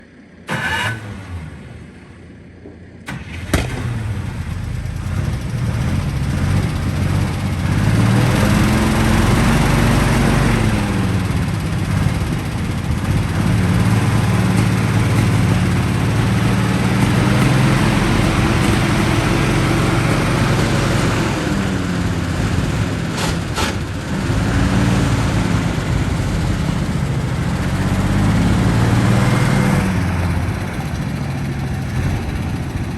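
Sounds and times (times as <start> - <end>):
truck engine starting and revving: 0.0 - 32.9.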